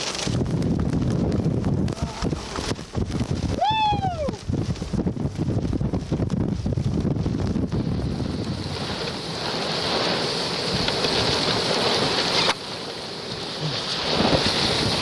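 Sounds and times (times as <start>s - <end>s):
hiss of wind-driven rain: 0.0s - 15.0s
wind buffeting microphone: 0.0s - 15.0s.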